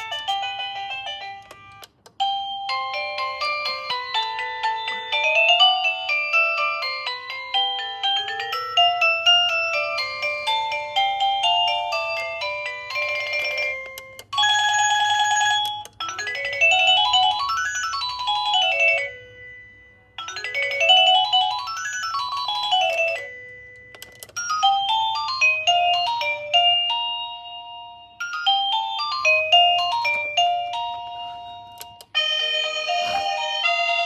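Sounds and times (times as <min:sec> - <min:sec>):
electronic doorbell chime tunes: 0:00.0 - 0:34.0.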